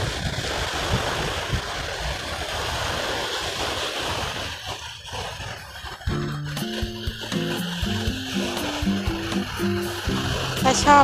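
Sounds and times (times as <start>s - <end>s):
waves washing onto sandy shore: 0.0s - 11.0s
wind buffeting microphone: 0.0s - 11.0s.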